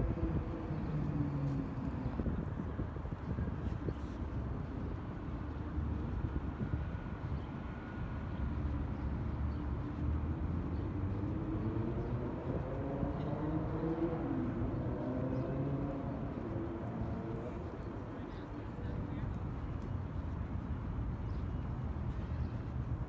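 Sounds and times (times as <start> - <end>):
indistinct voices of passers-by: 0.0 - 6.5, 8.6 - 23.0
low rumble of city traffic: 0.0 - 23.0.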